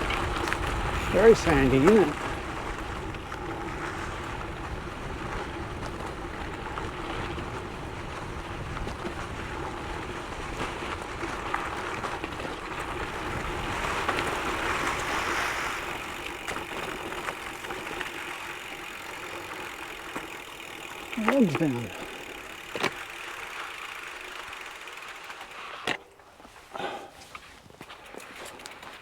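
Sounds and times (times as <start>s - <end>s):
bike tyres rolling on gravel: 0.0s - 29.0s.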